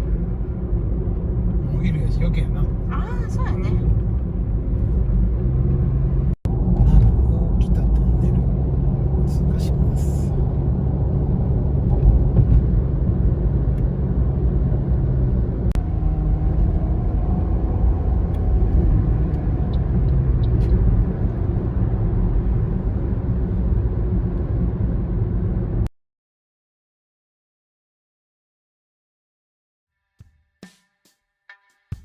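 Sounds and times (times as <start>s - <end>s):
car driving on road: 0.0s - 25.9s.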